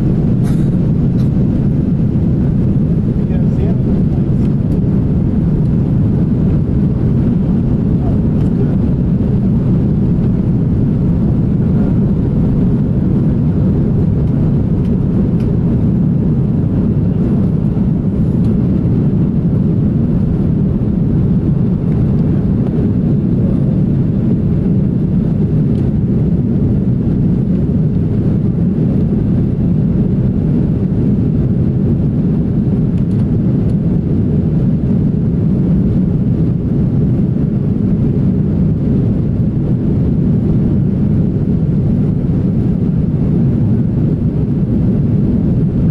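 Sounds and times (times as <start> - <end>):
jet engines rumbling in cabin: 0.0 - 45.9.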